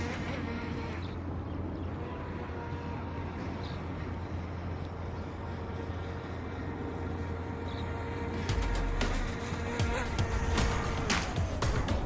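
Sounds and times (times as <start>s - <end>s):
faint steady hum: 0.0s - 10.8s
traffic and wind rumble: 0.0s - 12.0s.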